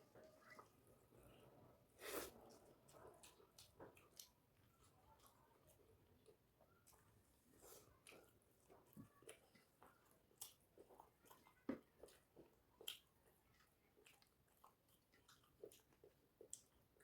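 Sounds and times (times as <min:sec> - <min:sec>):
person chewing with lip smacks: 0:02.1 - 0:17.0.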